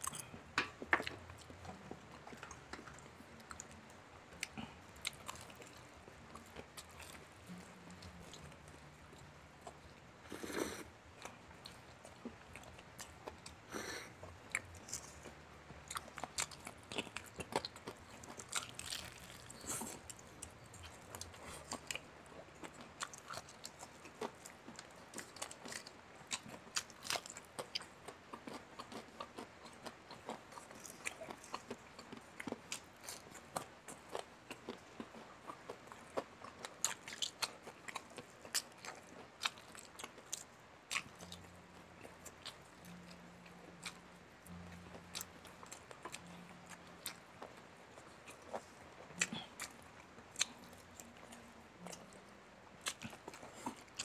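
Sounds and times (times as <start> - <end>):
crunchy chewing of fried chicken: 0.0 - 54.0.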